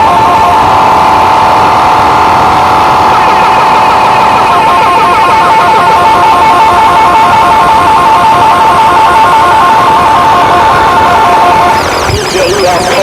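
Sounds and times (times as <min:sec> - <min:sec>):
distorted warbling electronic music: 0:00.0 - 0:13.0.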